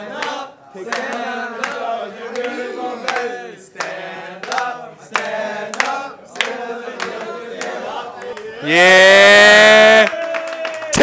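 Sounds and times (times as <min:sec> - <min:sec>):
crowd of men singing: 0:00.0 - 0:09.9
sharp hand claps: 0:00.2 - 0:08.5, 0:10.0 - 0:11.0.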